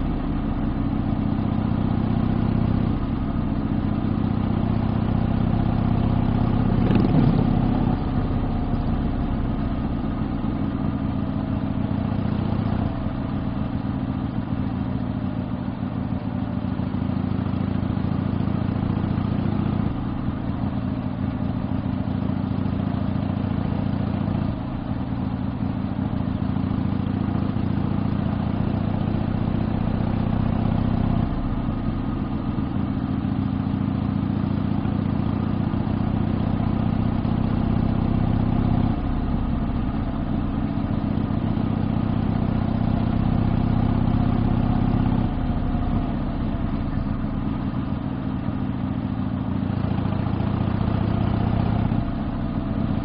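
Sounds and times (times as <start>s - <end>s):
motorcycle exhaust riding: 0.0s - 53.0s.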